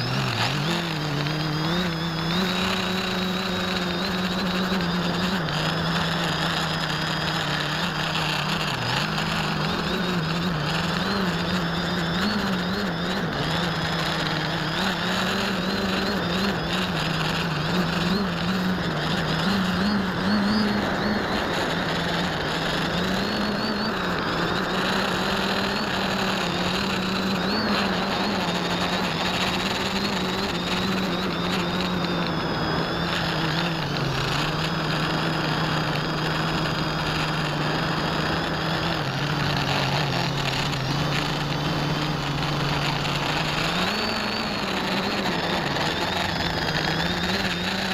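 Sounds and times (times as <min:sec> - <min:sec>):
constant hiss: 0:00.0 - 0:47.9
quadcopter motors buzzing: 0:00.0 - 0:47.9.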